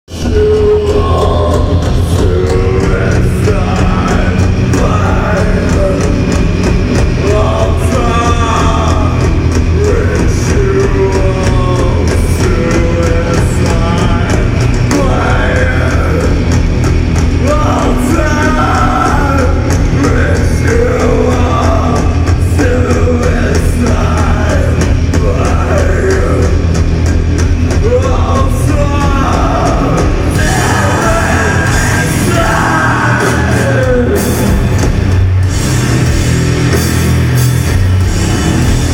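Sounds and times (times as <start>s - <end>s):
person singing: 0.1s - 27.1s, 27.7s - 34.9s
heavy metal band playing live: 0.1s - 38.9s.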